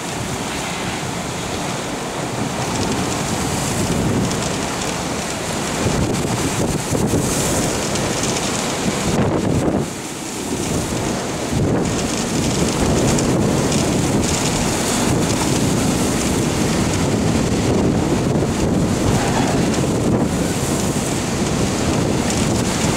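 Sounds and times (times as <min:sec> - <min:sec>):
storm surf roaring: 0:00.0 - 0:22.9
wind buffeting microphone: 0:00.0 - 0:22.9.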